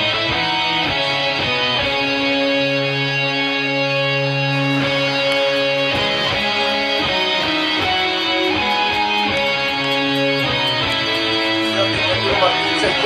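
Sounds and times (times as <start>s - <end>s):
guitar music with held chords: 0.0s - 13.0s.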